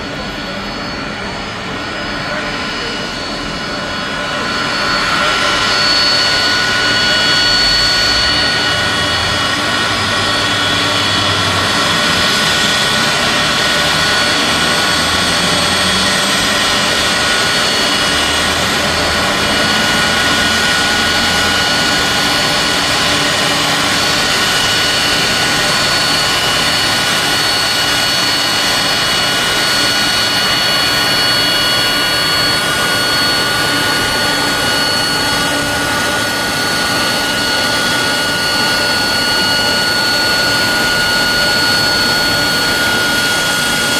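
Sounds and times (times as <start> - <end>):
jet engines whining and roaring: 0.0 - 43.9.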